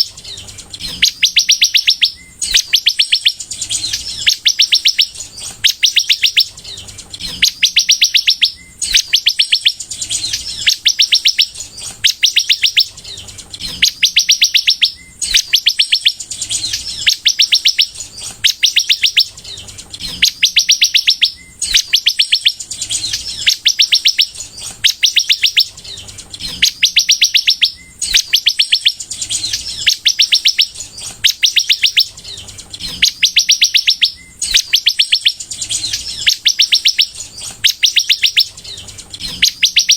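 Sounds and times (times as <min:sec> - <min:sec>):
sunbird trilling song: 0:00.0 - 0:39.9.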